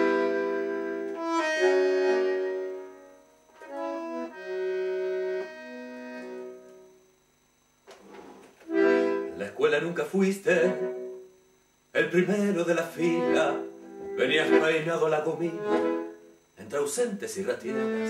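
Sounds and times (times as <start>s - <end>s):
bandoneon playing slow chords: 0.0s - 7.6s, 8.3s - 16.8s, 17.4s - 18.0s.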